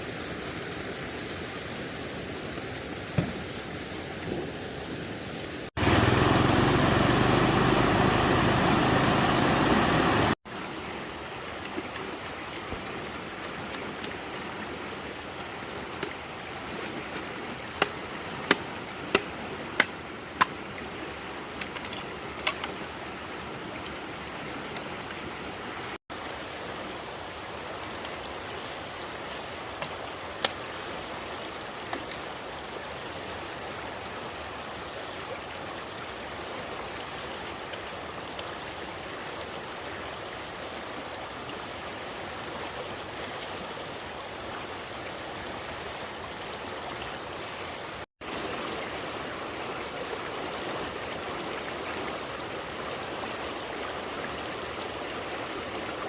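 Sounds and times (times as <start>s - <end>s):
water rushing: 5.5s - 56.0s.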